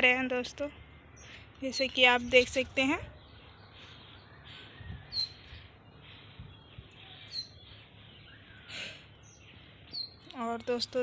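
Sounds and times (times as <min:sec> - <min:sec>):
high bird chirps: 0:00.7 - 0:11.0.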